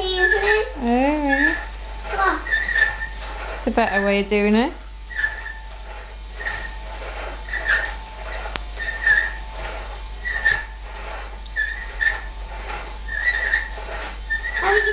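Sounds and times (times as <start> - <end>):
vacuum cleaner running: 0.0 - 14.9
vacuum whistling squeal: 1.3 - 4.2, 5.0 - 14.9.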